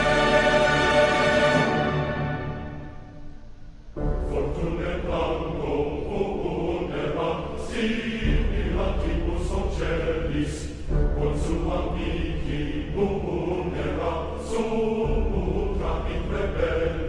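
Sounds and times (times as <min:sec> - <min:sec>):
choir-like chant music: 0:00.0 - 0:17.0.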